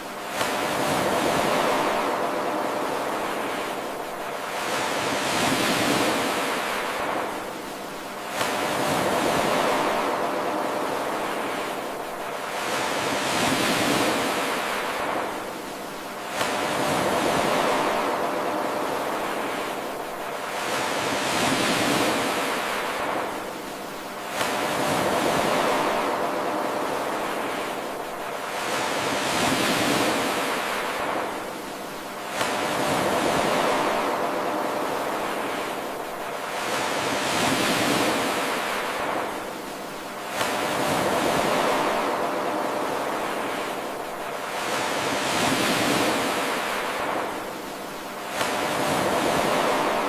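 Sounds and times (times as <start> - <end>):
ocean waves washing on shore: 0.0 - 50.0.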